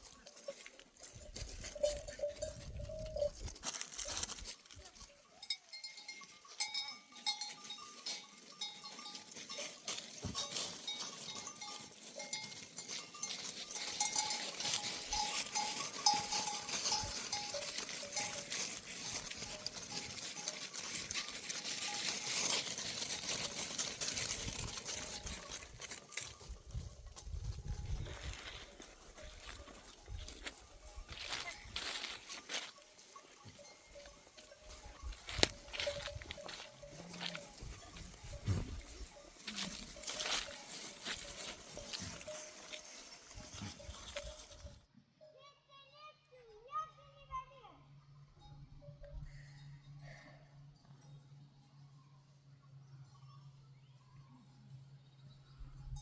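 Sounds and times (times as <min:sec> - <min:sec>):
sheep neck bells clinking: 0:00.0 - 0:45.8, 0:46.4 - 0:56.0.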